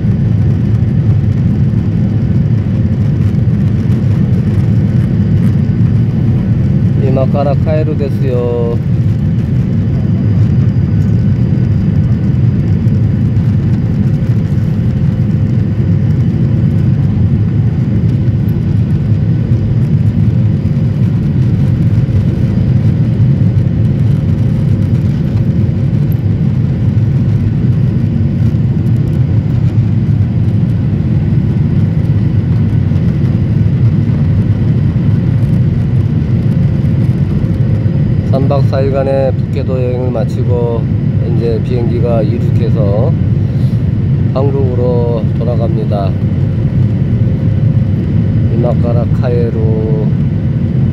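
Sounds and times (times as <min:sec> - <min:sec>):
jet engines roaring in cabin: 0:00.0 - 0:50.9.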